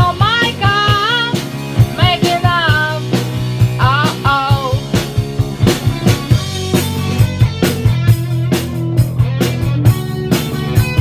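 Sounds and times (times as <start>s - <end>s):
rock music: 0.0s - 11.0s
sliding lead melody: 0.0s - 11.0s
steady drum beat: 0.0s - 11.0s.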